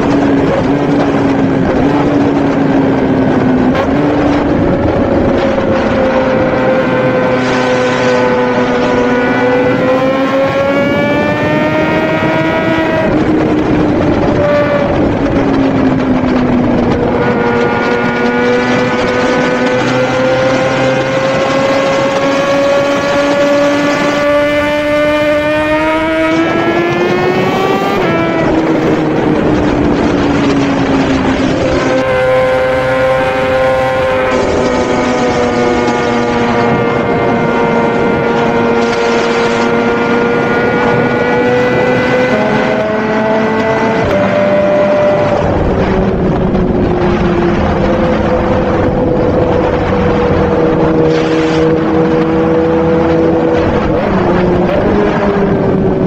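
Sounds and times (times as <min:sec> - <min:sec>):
motorcycle engine at high revs: 0:00.0 - 0:56.0
steady rush of noise: 0:00.0 - 0:56.0.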